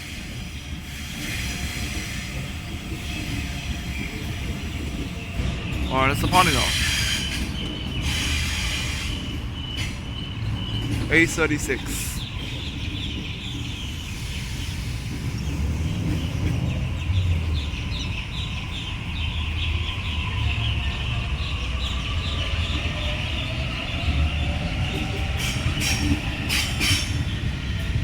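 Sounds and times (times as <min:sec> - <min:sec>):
electric train rumble: 0:00.0 - 0:28.0.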